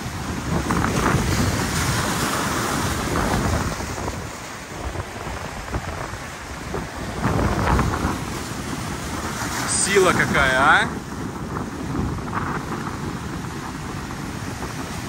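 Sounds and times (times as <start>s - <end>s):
surf breaking on breakwater: 0.0s - 15.0s
wind buffeting microphone: 0.0s - 15.0s.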